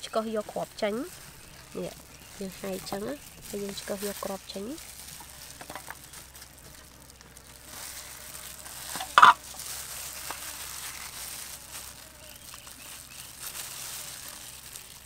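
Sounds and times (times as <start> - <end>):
faint crinkling and ticks: 0.0 - 15.0.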